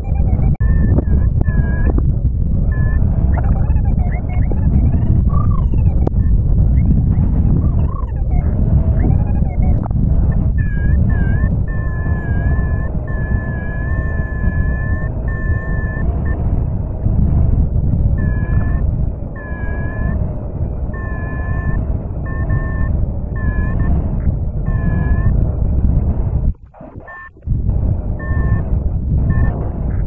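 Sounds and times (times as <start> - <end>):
variometer two-tone beeps: 0.0 - 30.0
wind rumble on microphone: 0.0 - 30.0.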